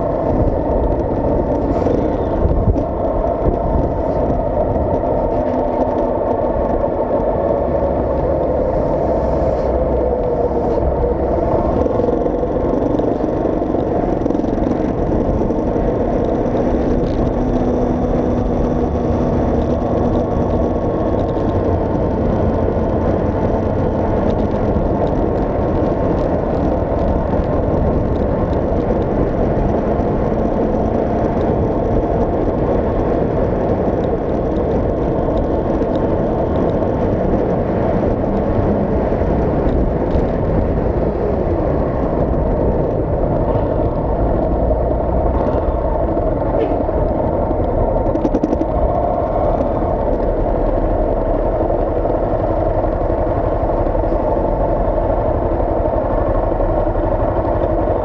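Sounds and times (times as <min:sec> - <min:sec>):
engine and tyre noise: 0:00.0 - 0:58.0
wind on microphone: 0:00.0 - 0:58.0.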